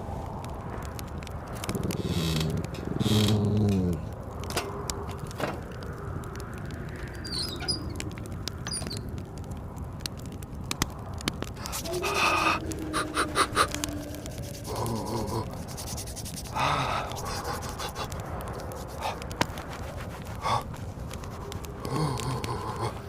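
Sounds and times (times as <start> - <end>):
blizzard wind: 0.0 - 23.0
wood fire crackling and popping: 0.0 - 23.0.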